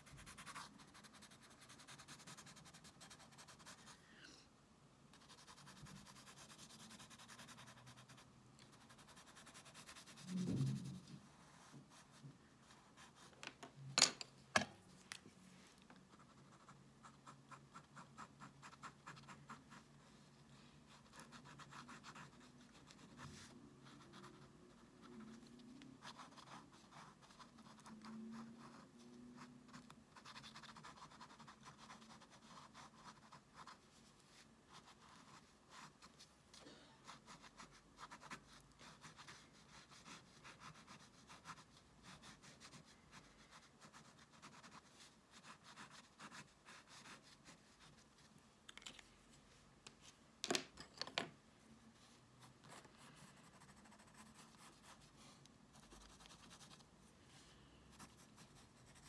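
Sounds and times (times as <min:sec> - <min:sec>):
pencil scratching on paper: 0:00.0 - 0:04.0, 0:05.1 - 0:13.3, 0:16.1 - 0:36.3, 0:37.0 - 0:48.3, 0:52.6 - 0:56.9, 0:57.9 - 0:59.0.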